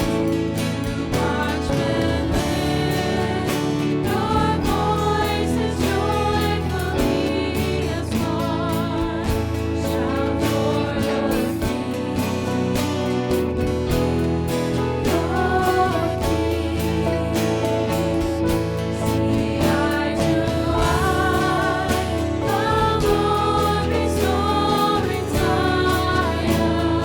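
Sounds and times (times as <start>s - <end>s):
instrumental accompaniment: 0.0s - 27.0s
voices singing a hymn: 0.0s - 27.0s.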